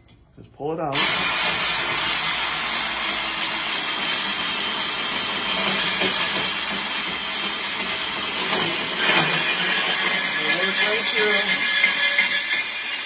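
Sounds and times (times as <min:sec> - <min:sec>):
band saw cutting metal: 0:00.9 - 0:13.0.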